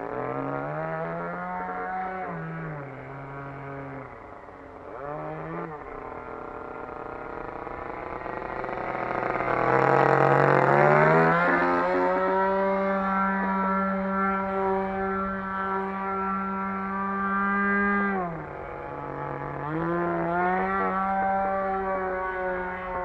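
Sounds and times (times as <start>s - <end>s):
model plane engine revving: 0.0s - 23.0s.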